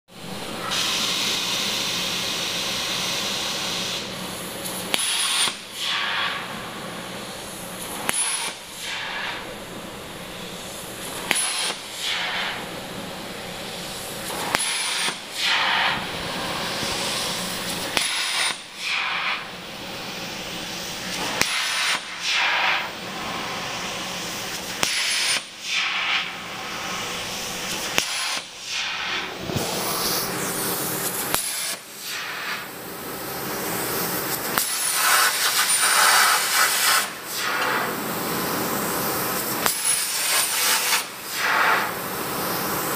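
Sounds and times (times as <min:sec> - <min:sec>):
steady air hiss: 0:00.4 - 0:42.9
plasma arc hissing: 0:00.6 - 0:32.8, 0:33.6 - 0:42.9.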